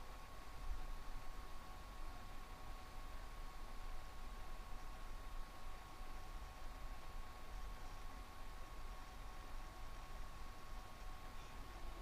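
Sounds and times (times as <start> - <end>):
faint hiss: 0.0 - 12.0
thin high whine: 0.0 - 12.0.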